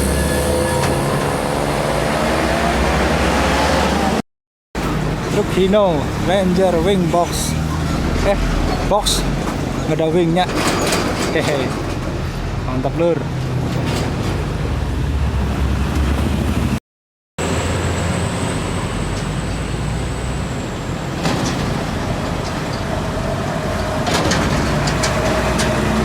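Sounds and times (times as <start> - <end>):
diesel trucks passing: 0.0 - 4.2, 4.8 - 16.8, 17.4 - 26.0.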